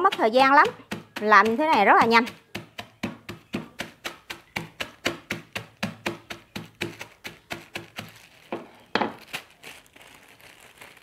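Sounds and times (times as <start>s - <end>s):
pestle pounding peanuts in bag: 0.0s - 11.0s.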